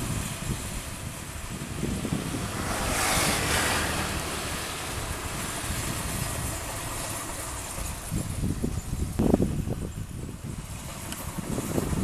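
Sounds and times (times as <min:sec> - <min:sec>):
combine harvester engine rumble: 0:00.0 - 0:12.0.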